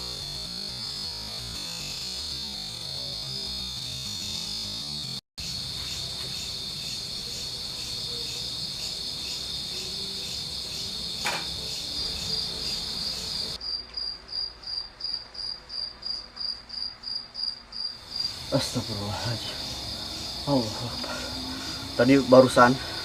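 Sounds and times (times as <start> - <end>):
crickets chirping: 0.1 - 23.0.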